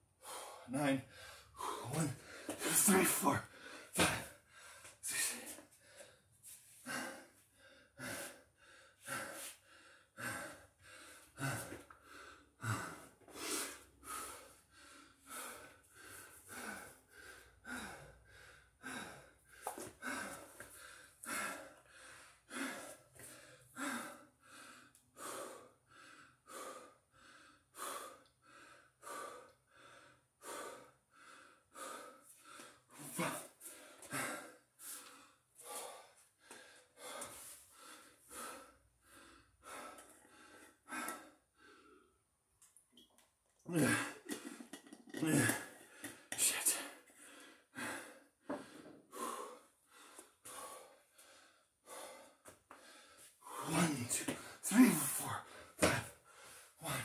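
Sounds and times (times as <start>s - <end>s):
man panting hard: 0.1s - 42.3s, 43.7s - 57.0s.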